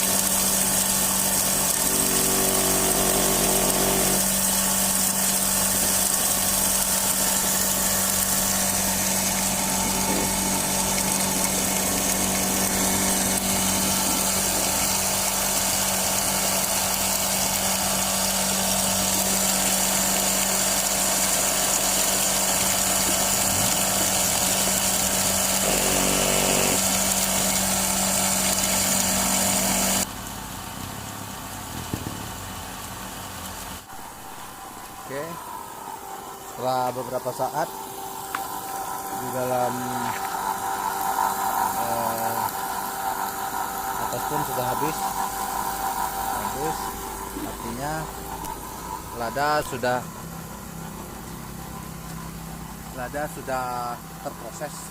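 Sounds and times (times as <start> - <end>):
electric pepper grinder running: 0.0 - 30.1, 33.8 - 50.5.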